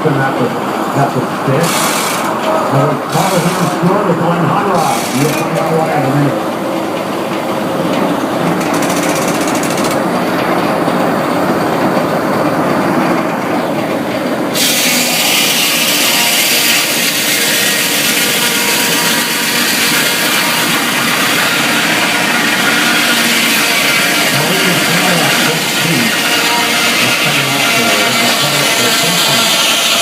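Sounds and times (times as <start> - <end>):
sawmill machinery rattling: 0.0 - 30.0.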